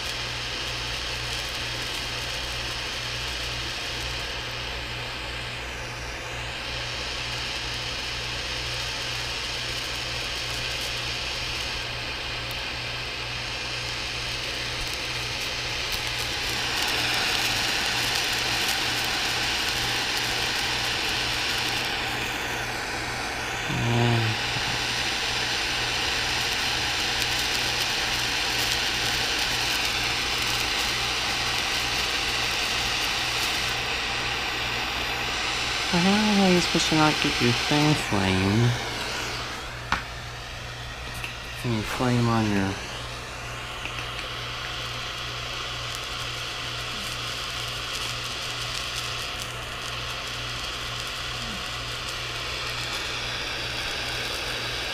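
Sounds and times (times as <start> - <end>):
gas torch burning with hiss: 0.0 - 54.9.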